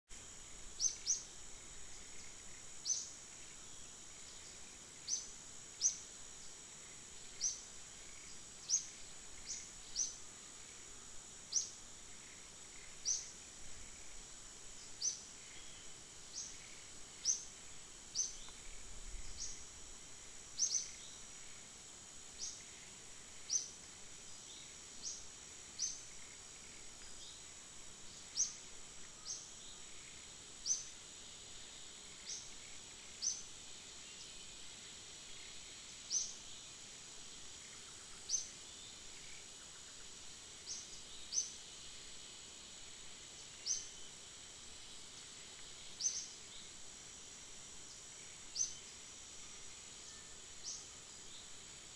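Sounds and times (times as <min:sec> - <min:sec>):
high-pitched insect drone: 0:00.1 - 0:51.9.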